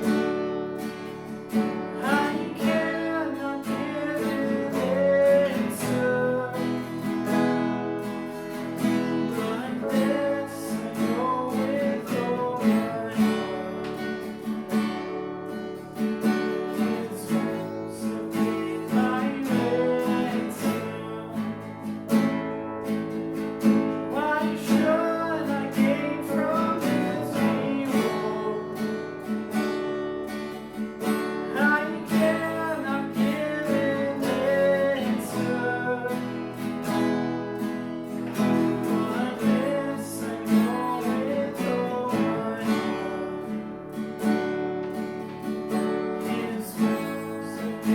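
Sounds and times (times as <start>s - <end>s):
acoustic guitar playing: 0.0s - 47.9s.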